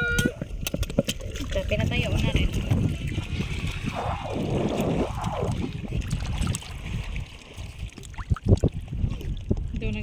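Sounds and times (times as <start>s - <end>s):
wind buffeting microphone: 0.1s - 10.0s
water sloshing: 0.4s - 10.0s.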